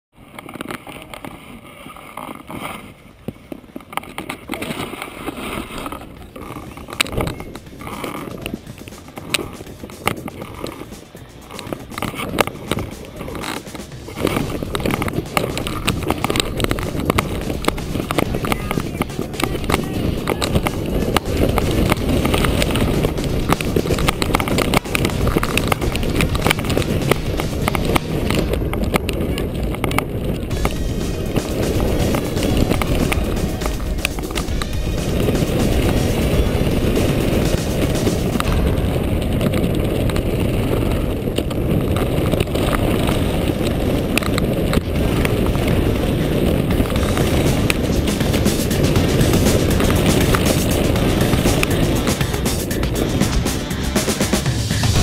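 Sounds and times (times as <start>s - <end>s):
wind buffeting microphone: 2.7s - 55.0s
sharp clicks: 3.8s - 55.0s.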